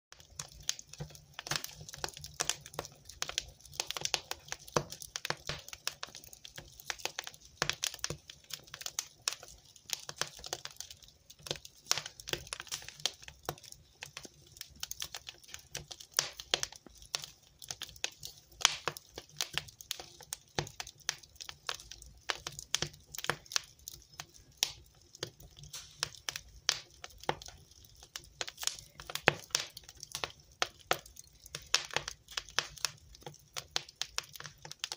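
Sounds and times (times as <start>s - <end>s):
wood fire crackling: 0.1s - 34.9s.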